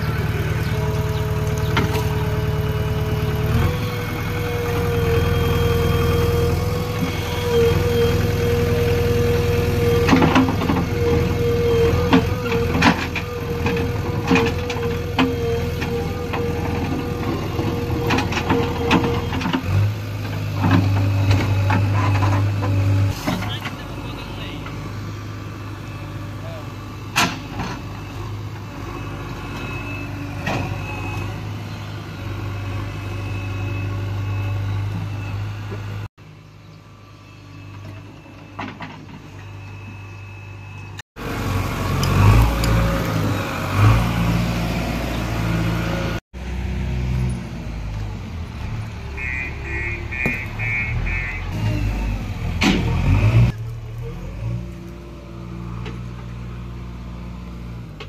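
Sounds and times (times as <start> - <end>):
diesel engine revving: 0.0 - 36.2, 40.6 - 58.0.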